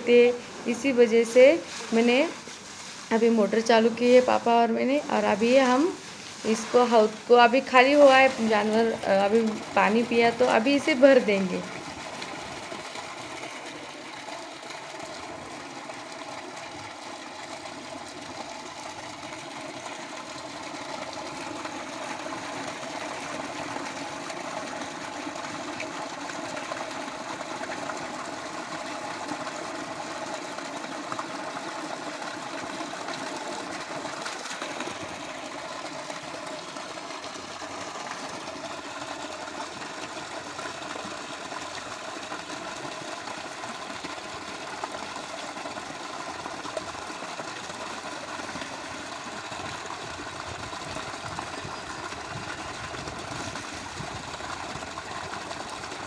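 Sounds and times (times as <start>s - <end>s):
water gushing into trough: 0.0s - 56.0s.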